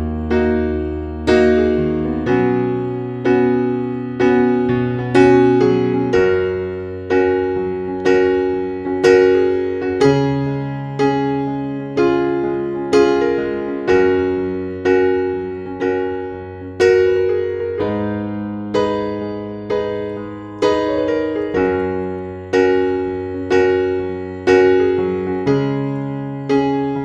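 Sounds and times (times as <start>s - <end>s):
slow gentle piano melody: 0.0s - 27.0s.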